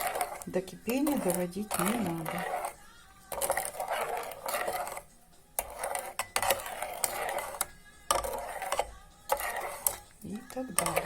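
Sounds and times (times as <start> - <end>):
spoon scraping a saucepan: 0.0 - 11.0.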